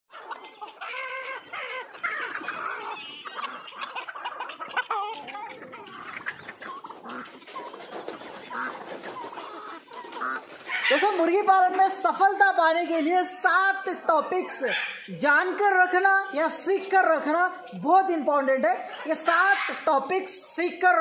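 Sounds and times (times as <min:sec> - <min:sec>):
chickens clucking: 0:00.1 - 0:21.0.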